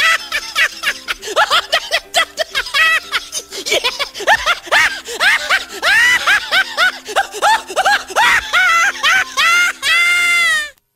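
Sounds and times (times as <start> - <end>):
high-pitched squeaky laughter: 0.0 - 10.7
background music: 0.0 - 10.8.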